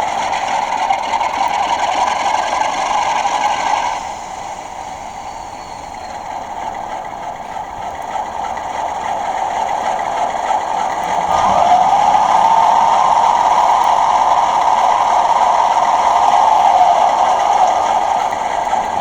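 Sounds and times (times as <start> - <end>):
simulated diesel engine from small speaker: 0.0 - 19.0.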